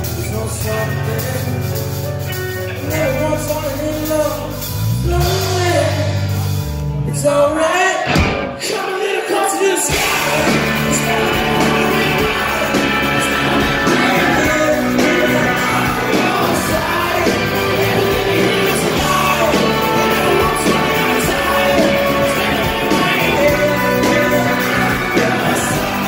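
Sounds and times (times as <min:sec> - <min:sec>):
drums: 0:00.0 - 0:26.0
electric guitars: 0:00.0 - 0:26.0
lead vocals: 0:00.0 - 0:26.0.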